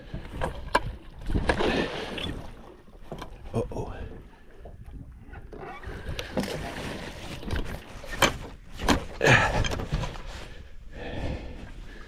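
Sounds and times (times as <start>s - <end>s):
knocks and clunks on boat: 0.0s - 11.6s.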